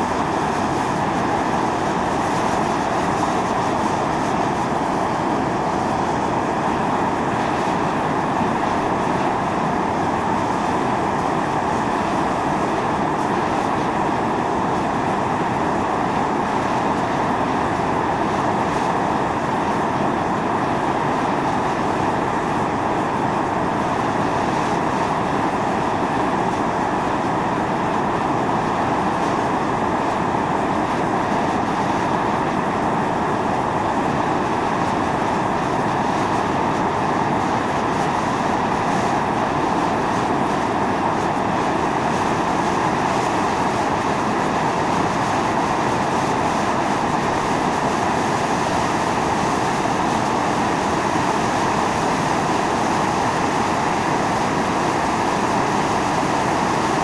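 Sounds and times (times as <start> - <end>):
steam venting hiss: 0.0 - 57.0.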